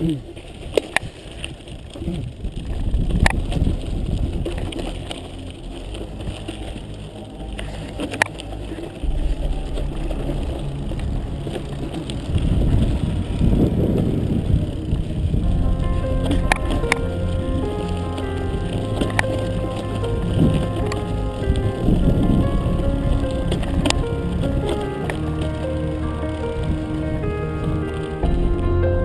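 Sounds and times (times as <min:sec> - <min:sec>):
bike tyres rumbling on gravel: 0:00.0 - 0:29.0
wind on microphone: 0:00.0 - 0:29.0.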